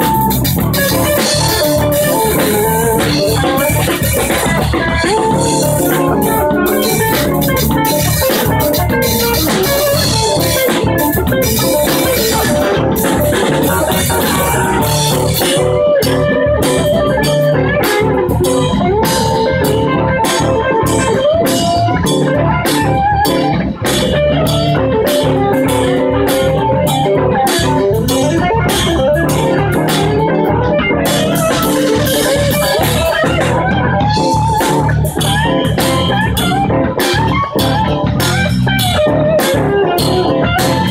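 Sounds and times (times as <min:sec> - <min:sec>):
live band playing: 0:00.0 - 0:40.9.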